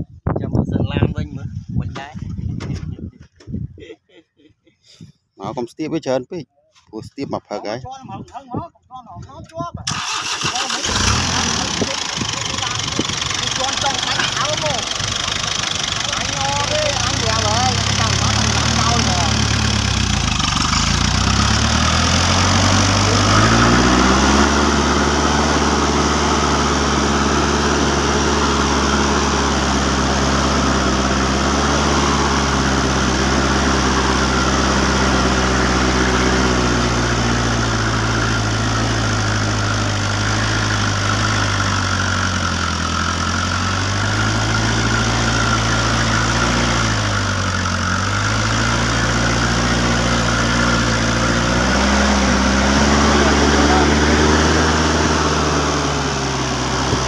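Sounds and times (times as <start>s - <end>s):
truck engine running: 9.9s - 57.0s.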